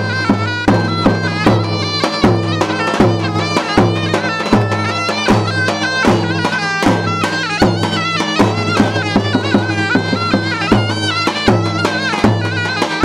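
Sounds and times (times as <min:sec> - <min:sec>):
drum beat: 0:00.0 - 0:13.0
reedy wind instrument melody: 0:00.0 - 0:13.0.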